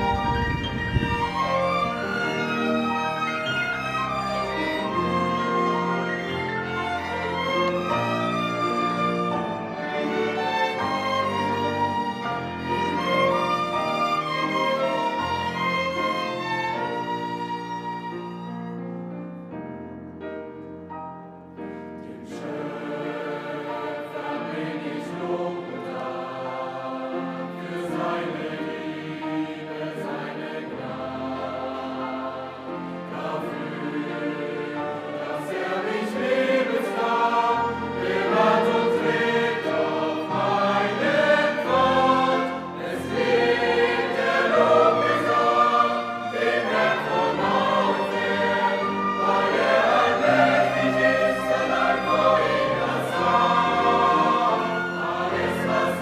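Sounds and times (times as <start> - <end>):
choir singing with orchestra: 0.0 - 19.6, 20.4 - 56.0.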